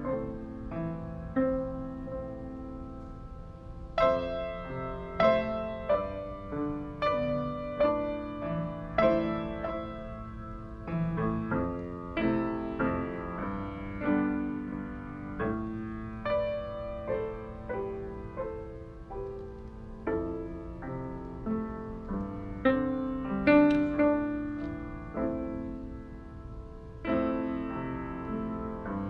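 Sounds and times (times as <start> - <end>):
slow solo piano: 0.0 - 29.0.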